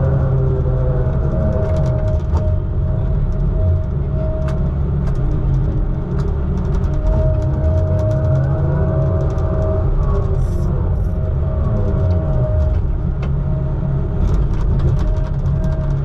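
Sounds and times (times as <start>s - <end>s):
diesel engine rumbling: 0.0s - 16.0s
engine whine: 0.0s - 16.0s.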